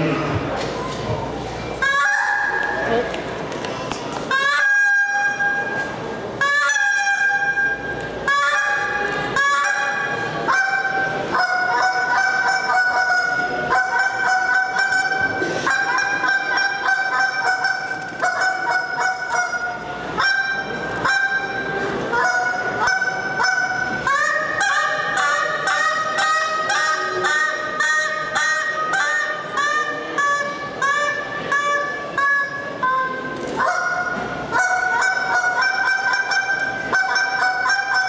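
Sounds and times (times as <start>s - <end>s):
goose call honks and clucks: 1.8s - 2.8s, 4.3s - 5.5s, 8.3s - 38.0s.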